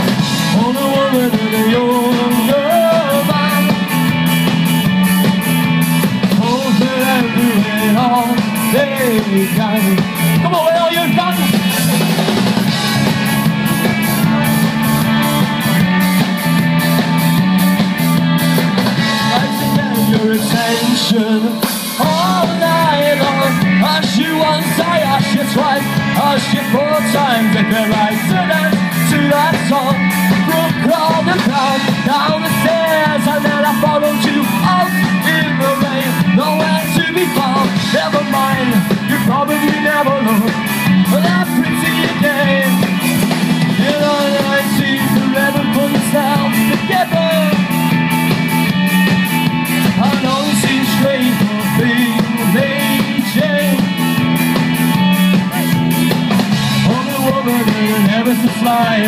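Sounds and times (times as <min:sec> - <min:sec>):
person singing: 0:00.0 - 0:04.3, 0:05.6 - 0:12.2, 0:18.1 - 0:48.1, 0:49.6 - 0:56.1, 0:56.7 - 0:59.0
bass guitar: 0:00.0 - 0:59.0
drums: 0:00.0 - 0:59.0
electric guitars: 0:00.0 - 0:59.0.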